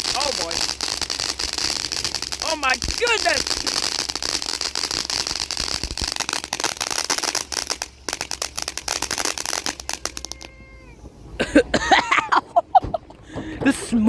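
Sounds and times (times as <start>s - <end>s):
firework crackling over hiss: 0.0s - 11.3s.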